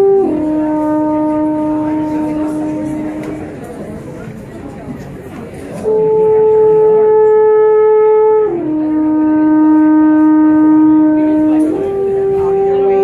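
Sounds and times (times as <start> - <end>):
alphorn long held notes: 0.0 - 13.0.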